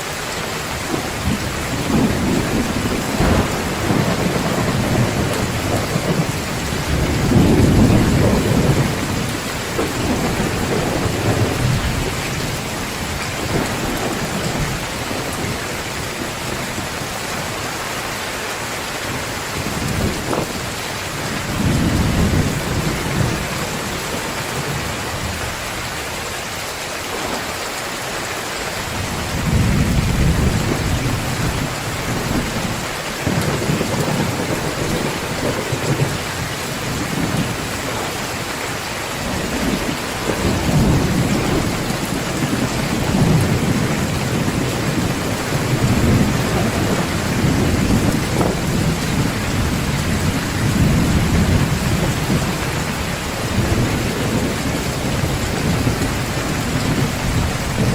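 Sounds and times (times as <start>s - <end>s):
heavy rain pouring: 0.0s - 57.9s
low thunder rumbles: 0.8s - 17.9s, 19.0s - 26.3s, 28.8s - 57.9s.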